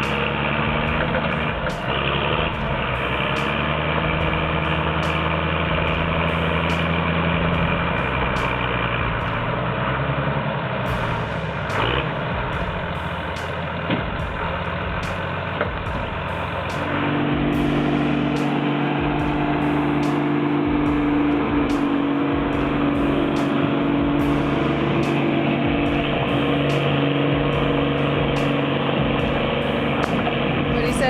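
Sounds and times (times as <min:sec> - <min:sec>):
heavy vehicle engine running: 0:00.0 - 0:31.0.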